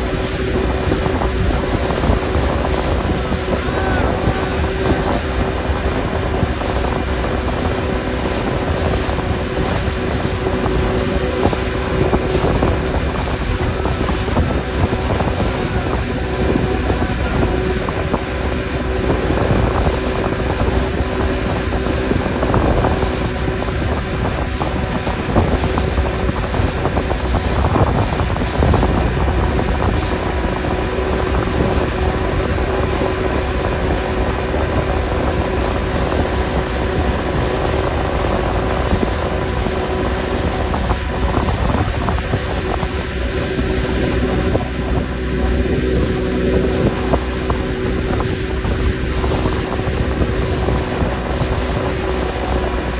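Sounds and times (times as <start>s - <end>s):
churning wake: 0.0s - 52.9s
outboard motor running: 0.0s - 52.9s
wind on microphone: 0.0s - 52.9s.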